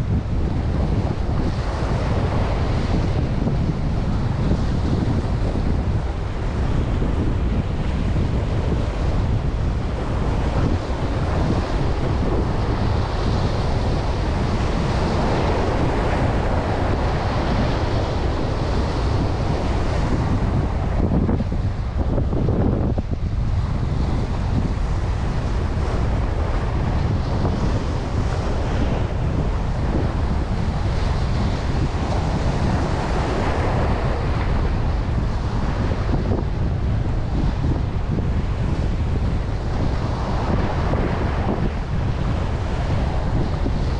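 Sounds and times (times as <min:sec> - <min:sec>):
ocean surf: 0:00.0 - 0:43.9
wind rumbling on microphone: 0:00.0 - 0:43.9.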